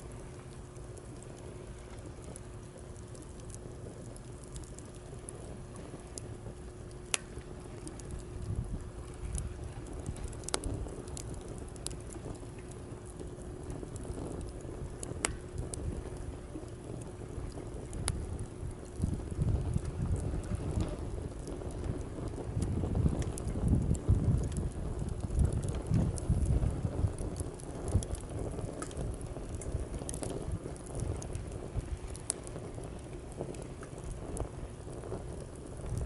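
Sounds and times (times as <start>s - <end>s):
campfire crackling: 0.0s - 36.0s
wind: 0.0s - 36.0s.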